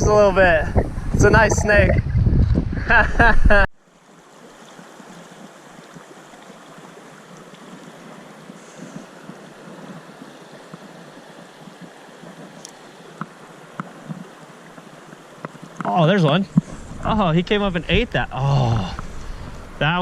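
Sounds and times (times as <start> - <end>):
creek water running: 0.0 - 3.2, 3.8 - 20.0.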